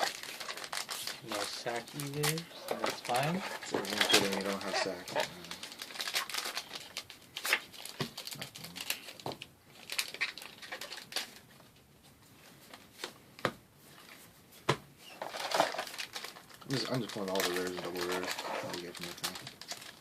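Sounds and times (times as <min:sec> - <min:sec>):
cards rustling and clicking: 0:00.0 - 0:11.6, 0:15.1 - 0:20.0
foil wrappers crinkling: 0:00.0 - 0:11.6, 0:15.1 - 0:20.0.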